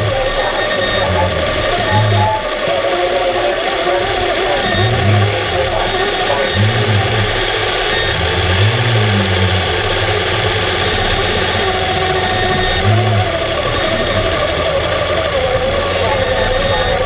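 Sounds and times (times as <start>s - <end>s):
low humming: 0.0s - 17.0s
underwater roar and hiss: 0.0s - 17.0s.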